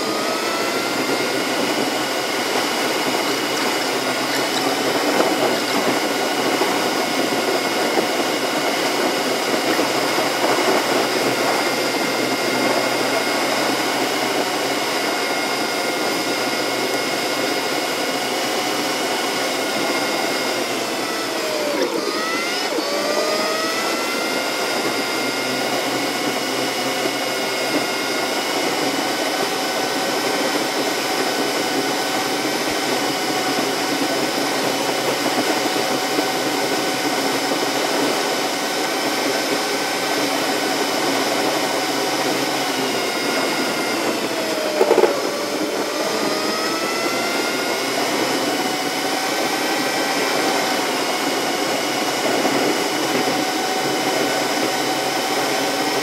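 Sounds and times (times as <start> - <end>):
sped-up car engine whine: 0.0 - 56.0.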